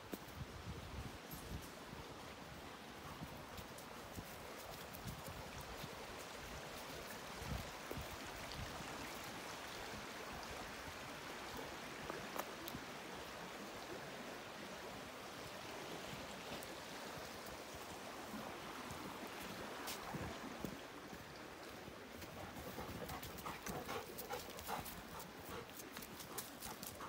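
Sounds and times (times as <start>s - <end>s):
creek water running: 0.1s - 27.0s.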